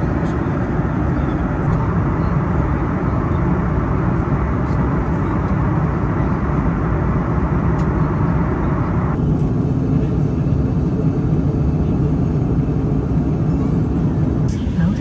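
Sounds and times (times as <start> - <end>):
airplane cabin noise: 0.0 - 15.0.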